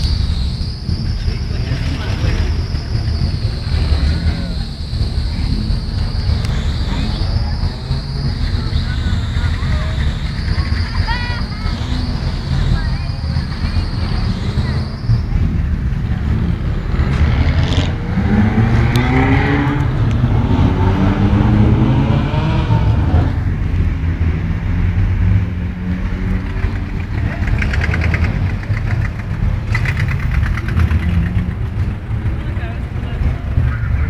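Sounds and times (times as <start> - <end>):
car engines rumbling: 0.0 - 34.0
engine revving: 0.0 - 34.0.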